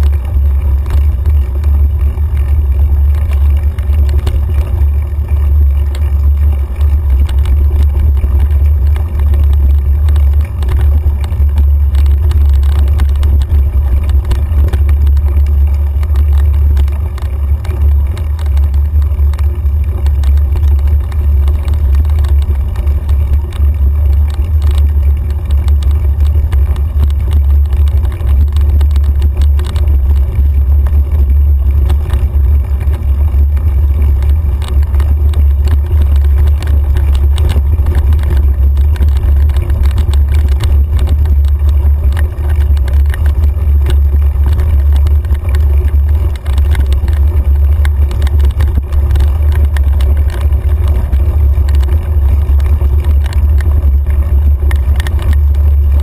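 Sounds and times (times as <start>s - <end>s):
bike rattles and clicks: 0.0s - 56.0s
wind and trail vibration rumble: 0.0s - 56.0s.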